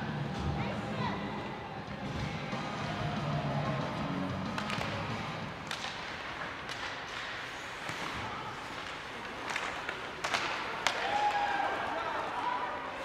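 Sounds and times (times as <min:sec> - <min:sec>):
hockey sticks and puck clacking: 0:01.9 - 0:13.0.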